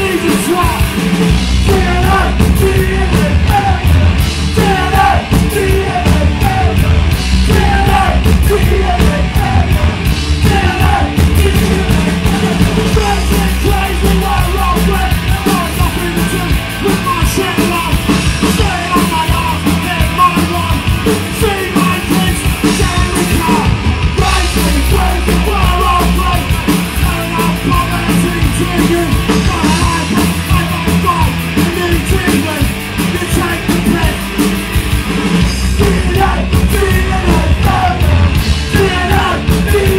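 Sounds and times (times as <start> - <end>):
person shouting singing: 0.0 - 0.9, 1.6 - 34.4, 35.7 - 39.9
punk rock band playing live: 0.0 - 39.9.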